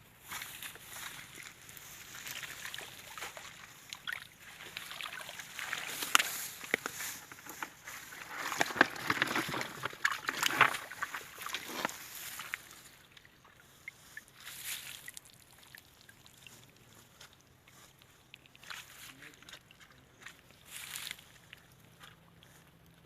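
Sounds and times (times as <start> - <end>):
water sloshing and splashing: 0.2 - 23.0.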